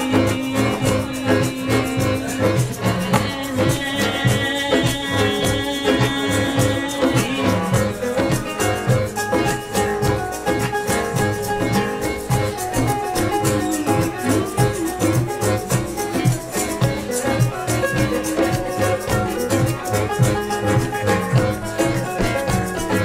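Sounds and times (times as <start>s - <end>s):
band playing latin song: 0.0s - 23.0s
guitar: 0.0s - 23.0s.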